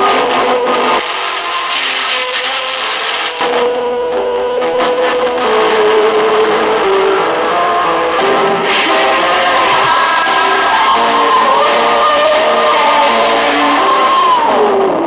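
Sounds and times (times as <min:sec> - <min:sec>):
lo-fi music with held notes: 0:00.0 - 0:15.0.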